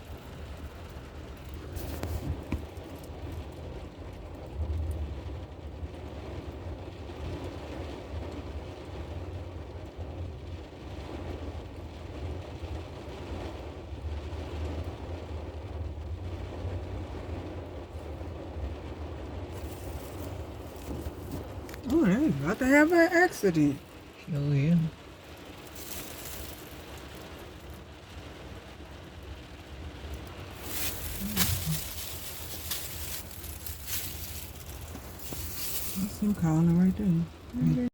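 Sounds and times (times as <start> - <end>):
low rumble of traffic: 0.0 - 37.9.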